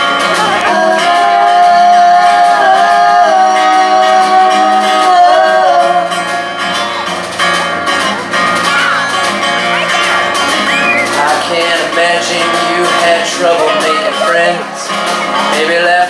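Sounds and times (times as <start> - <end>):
electric guitar: 0.0 - 16.0
strummed acoustic guitar: 0.0 - 16.0.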